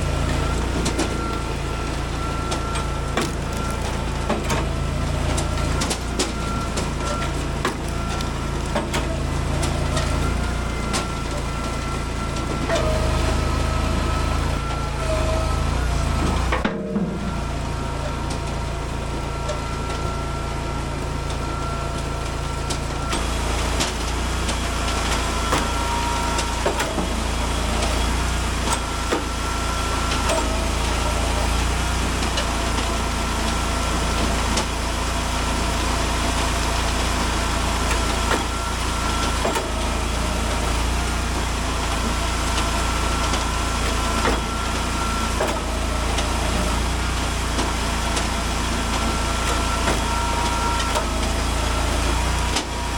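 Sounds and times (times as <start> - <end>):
wood splitter engine running: 0.0 - 52.9.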